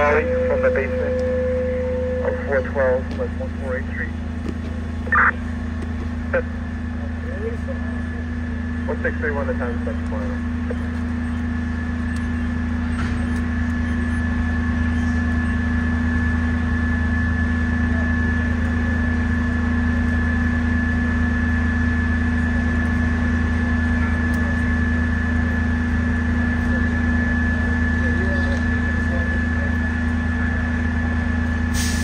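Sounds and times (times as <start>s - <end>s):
diesel engine idling: 0.0s - 32.0s
high whine: 0.0s - 32.0s.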